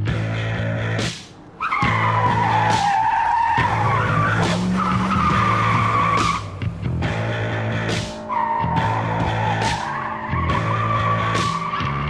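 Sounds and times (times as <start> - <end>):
car tire screech: 0.2 - 12.0.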